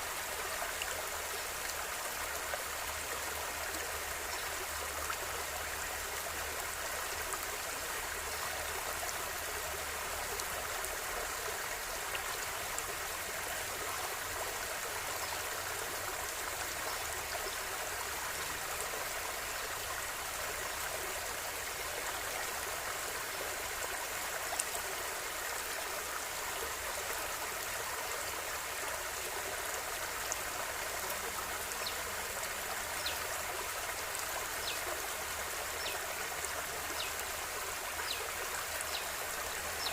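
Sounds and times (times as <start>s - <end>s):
faint water splashes and drips: 0.0s - 39.9s
river water babbling over stones: 0.0s - 39.9s.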